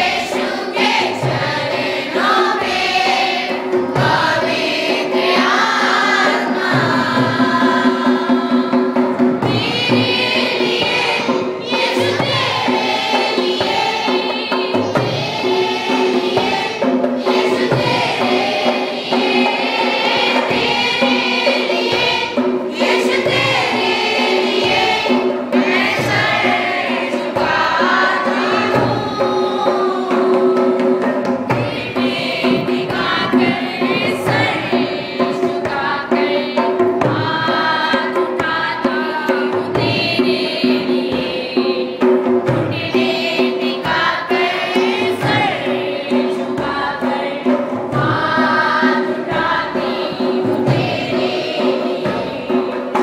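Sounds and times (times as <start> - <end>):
children singing together: 0.0 - 53.0
percussive beat: 0.0 - 53.0.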